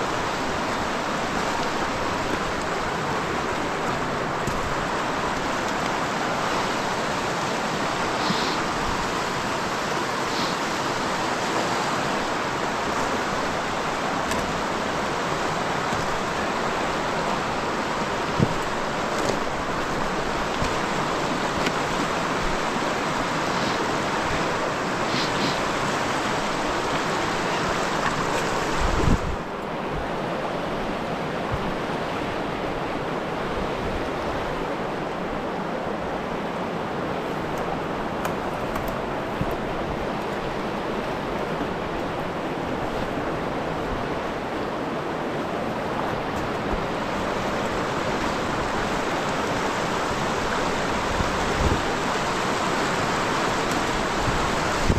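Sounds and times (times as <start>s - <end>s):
river rapids rushing: 0.0s - 54.9s.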